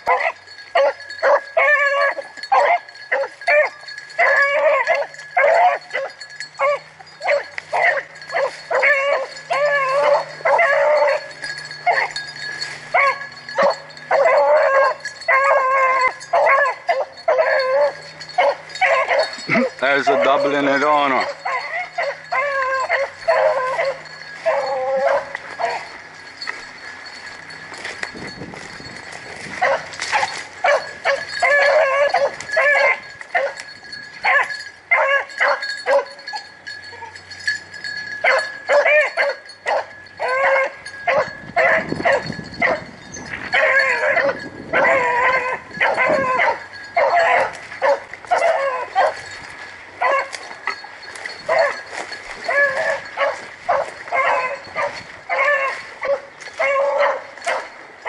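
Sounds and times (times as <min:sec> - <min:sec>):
hunting dogs baying: 0:00.0 - 0:58.0.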